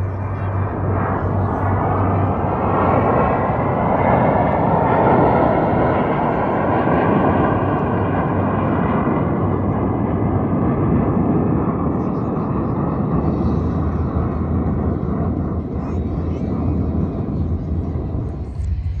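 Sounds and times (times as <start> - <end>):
jet engines flying past: 0.0 - 19.0.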